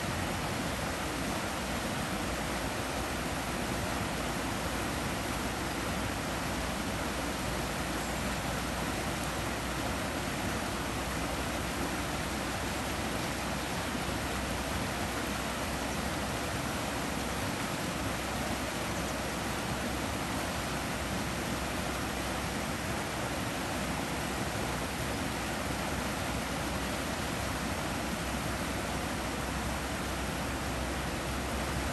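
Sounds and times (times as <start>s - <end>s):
water rushing over rocks: 0.0s - 31.9s.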